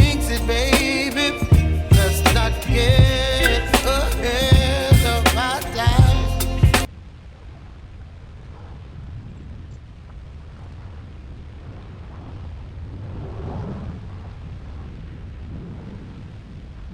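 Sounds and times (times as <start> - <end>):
low rumbling noise: 0.0 - 16.9.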